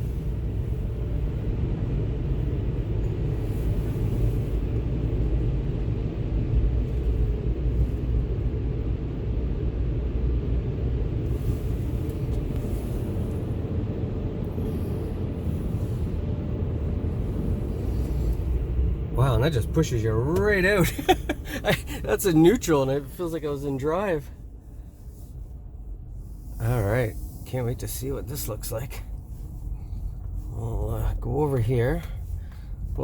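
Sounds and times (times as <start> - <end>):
car wash dryer rumble: 0.0 - 33.0.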